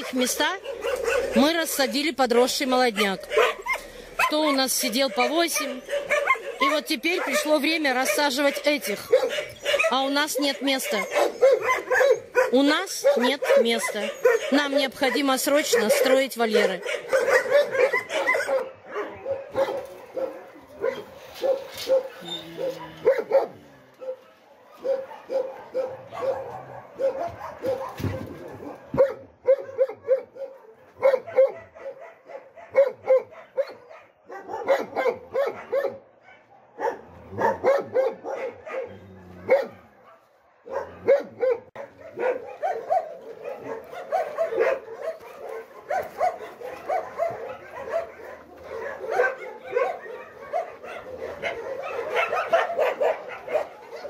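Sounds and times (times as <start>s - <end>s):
many dogs barking and yipping: 0.0s - 54.0s.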